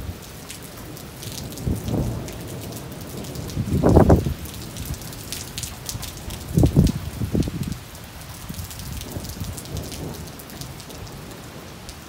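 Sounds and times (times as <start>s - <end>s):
heavy rain falling: 0.0s - 12.0s
low thunder rumble: 1.0s - 11.7s.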